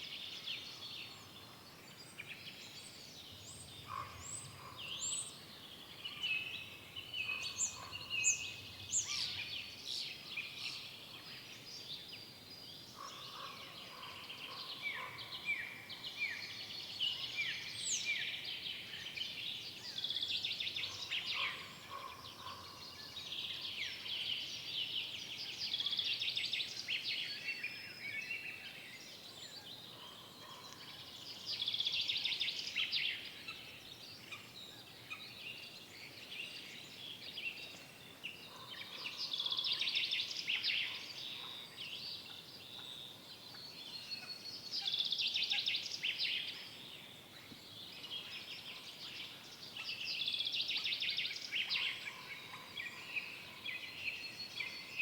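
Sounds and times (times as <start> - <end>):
forest songbirds singing: 0.0 - 55.0.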